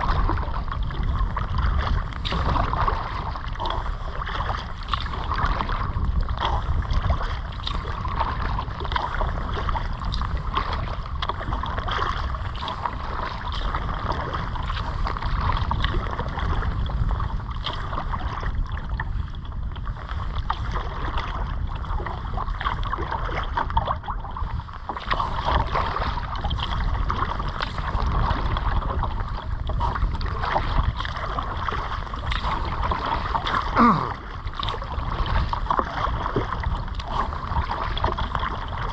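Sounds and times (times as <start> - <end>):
water around a kayak: 0.0 - 38.9
wind rumble on microphone: 0.0 - 38.9.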